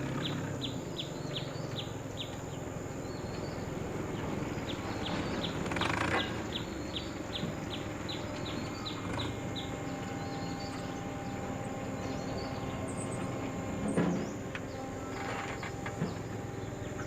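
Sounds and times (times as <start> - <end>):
steady background noise: 0.0 - 17.0
bird chirping: 0.1 - 17.0.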